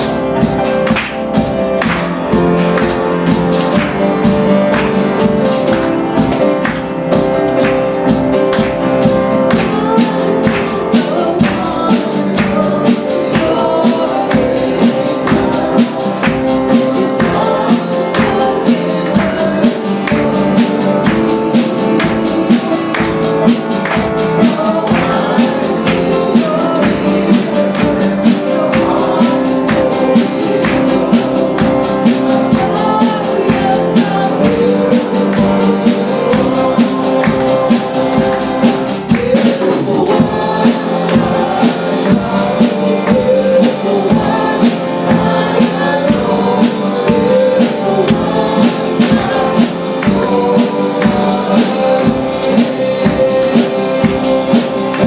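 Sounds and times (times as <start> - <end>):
guitar: 0.0 - 55.0
percussion beat: 0.0 - 55.0
worship band playing: 0.0 - 55.0
singing: 9.4 - 55.0.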